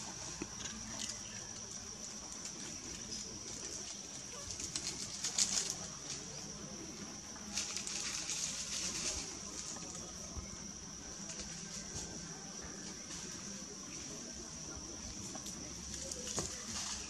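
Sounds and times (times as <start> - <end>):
twigs and leaves rustling: 0.0 - 17.0.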